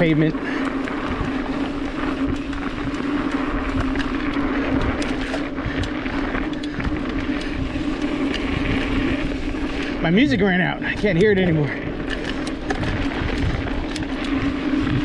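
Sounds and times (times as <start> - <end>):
bike ticks and rattles: 0.0 - 15.0
bike tyres rolling over dirt: 0.0 - 15.0.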